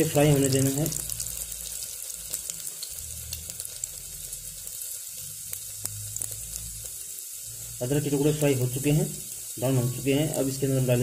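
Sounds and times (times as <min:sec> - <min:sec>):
ginger sizzling in hot oil: 0:00.0 - 0:11.0.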